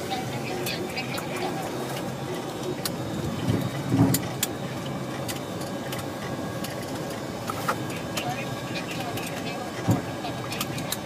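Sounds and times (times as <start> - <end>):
aircraft engines humming: 0.0 - 11.0.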